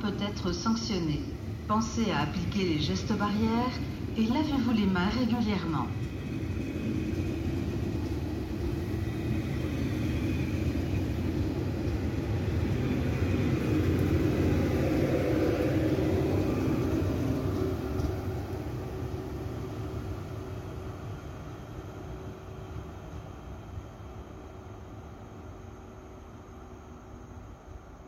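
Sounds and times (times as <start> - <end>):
high-speed train rumbling past: 0.0 - 28.0.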